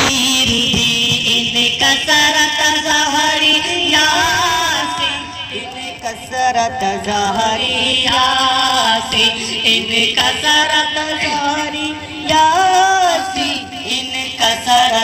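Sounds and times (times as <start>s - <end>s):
person singing chant-like line: 0.0s - 15.0s.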